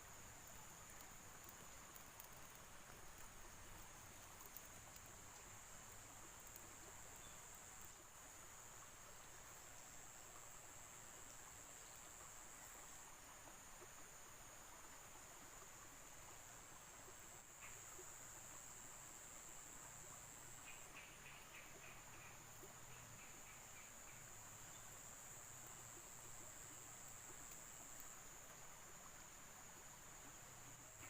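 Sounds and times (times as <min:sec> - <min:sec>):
insect chirring: 0:00.0 - 0:31.0.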